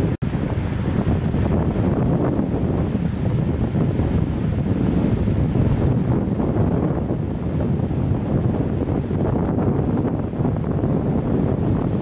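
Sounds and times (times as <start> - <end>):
ocean waves on rocks: 0.0 - 12.0
wind buffeting microphone: 0.0 - 12.0.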